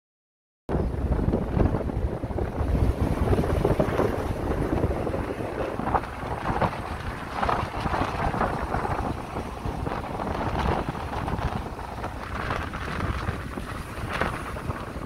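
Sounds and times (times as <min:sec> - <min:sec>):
wind buffeting microphone: 0:00.7 - 0:15.0.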